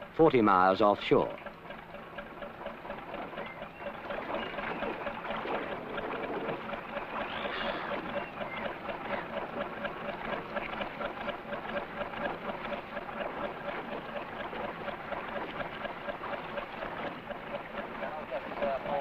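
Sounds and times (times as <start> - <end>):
boat engine chugging: 0.0 - 19.0.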